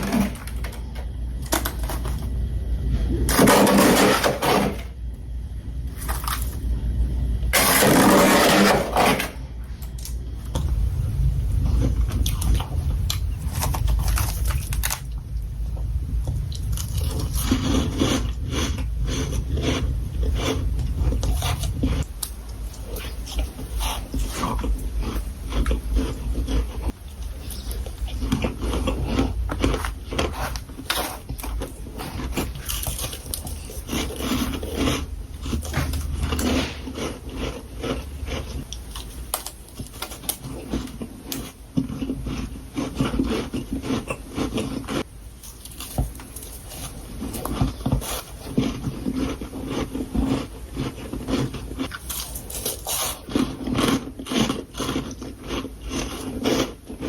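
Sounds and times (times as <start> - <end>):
person crunching frost: 0.0 - 5.0, 7.5 - 10.2, 11.6 - 15.2, 16.5 - 57.0.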